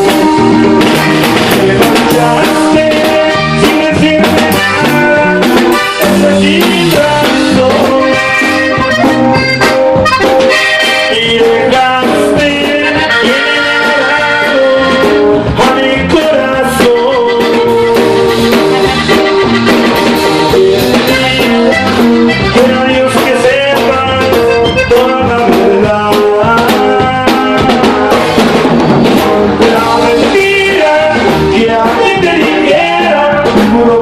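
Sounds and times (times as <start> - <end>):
button accordion melodic runs: 0.0 - 28.4
steady drum beat: 0.0 - 34.0
strummed guitar: 0.0 - 34.0.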